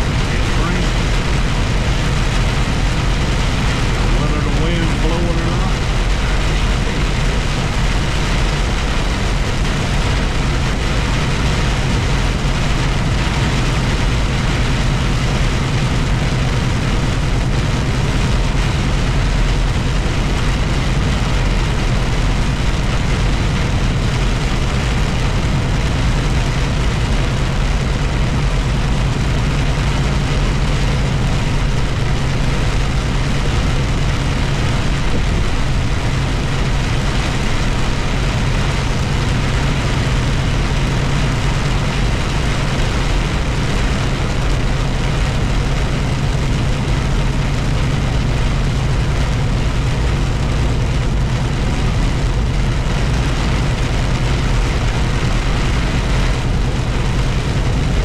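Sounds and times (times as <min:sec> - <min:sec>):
rain and wet tyres hissing: 0:00.0 - 0:58.0
vehicle engine drone: 0:00.0 - 0:58.0.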